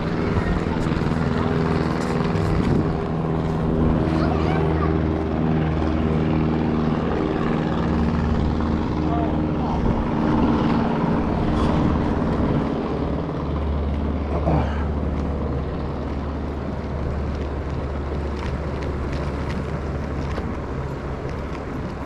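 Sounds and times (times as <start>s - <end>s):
falling whine: 0.0s - 22.0s
low engine drone: 0.0s - 22.0s
traffic noise: 0.0s - 22.0s
wind: 0.0s - 22.0s.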